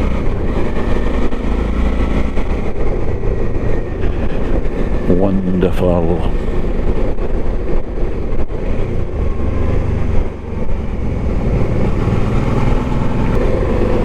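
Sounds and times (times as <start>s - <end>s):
wind rush: 0.0s - 14.0s.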